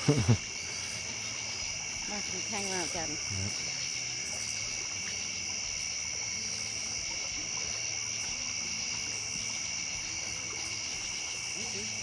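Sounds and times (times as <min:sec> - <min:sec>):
crickets and night insects chirping: 0:00.0 - 0:12.0.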